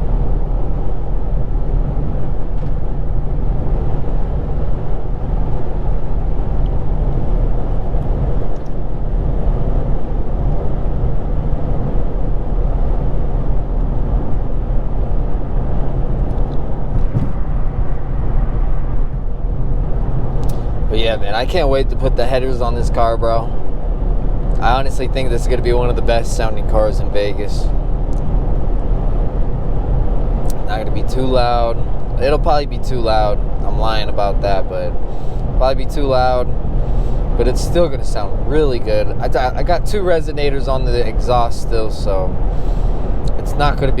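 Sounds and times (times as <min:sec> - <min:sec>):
car engine and exhaust: 0:00.0 - 0:44.0
road noise: 0:00.0 - 0:44.0.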